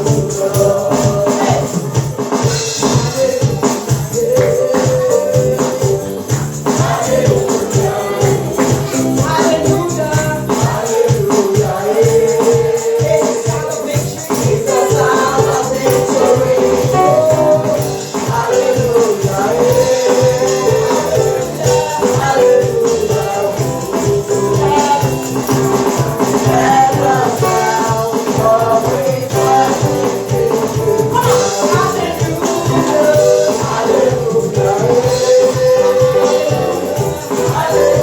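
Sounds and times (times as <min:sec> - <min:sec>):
continuous percussion: 0:00.0 - 0:38.0
worship singing: 0:00.0 - 0:38.0.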